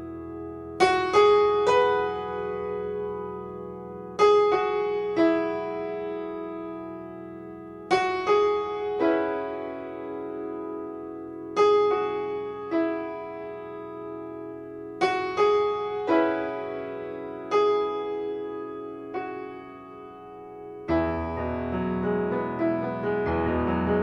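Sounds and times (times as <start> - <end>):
solo piano playing: 0.0 - 24.0.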